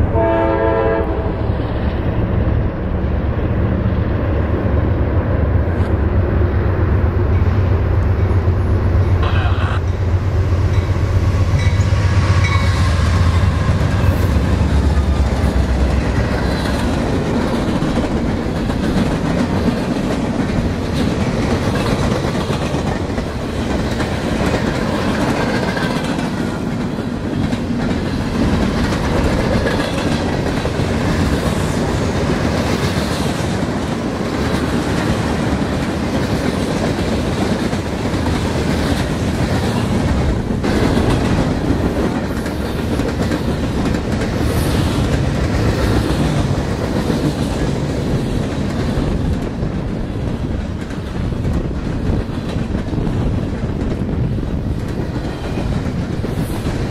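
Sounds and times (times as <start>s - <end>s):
wheels clacking over rail joints: 10.7s - 56.9s.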